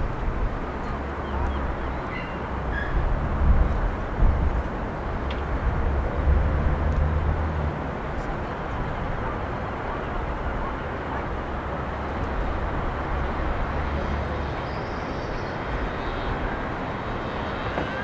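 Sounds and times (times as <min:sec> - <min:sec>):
distant traffic rumble: 0:00.0 - 0:18.0.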